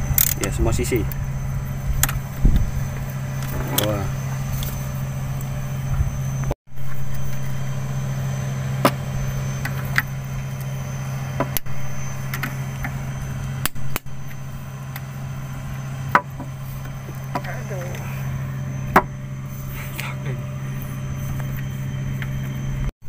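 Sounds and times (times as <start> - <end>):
engine drone: 0.0 - 22.9.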